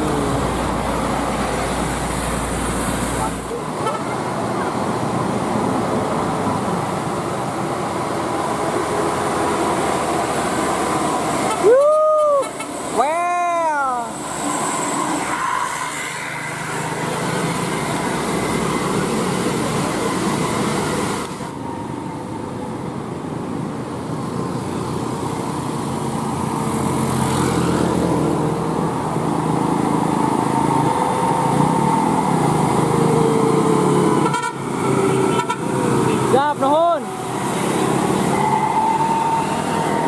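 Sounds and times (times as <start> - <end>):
bus engines: 0.0 - 40.0
road traffic rumble: 0.0 - 40.0.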